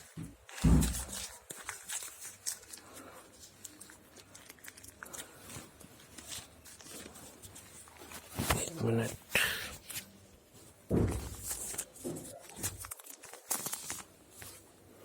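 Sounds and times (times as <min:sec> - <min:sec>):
plastic packaging crinkling: 0:00.0 - 0:10.6, 0:11.2 - 0:14.9.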